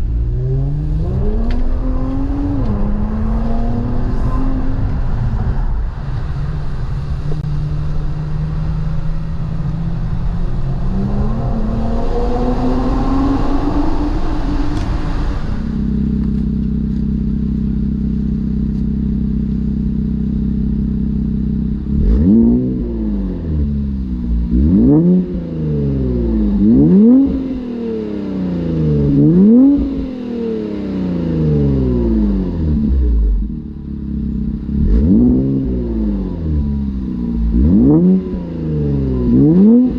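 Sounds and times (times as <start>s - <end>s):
car engine idling: 0.0s - 39.9s
car engine revving: 0.0s - 39.9s.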